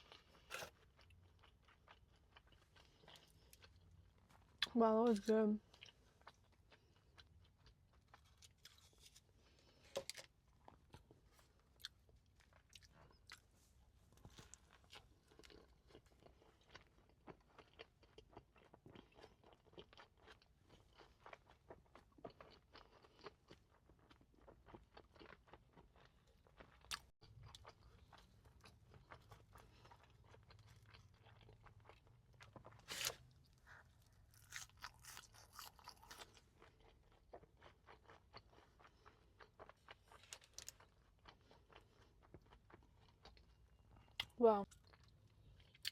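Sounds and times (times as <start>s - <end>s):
chewing and crunching food: 0.0s - 45.9s.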